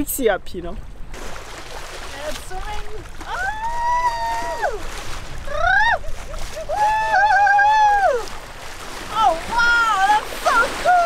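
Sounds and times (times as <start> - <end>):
water splashing: 1.0 - 11.0.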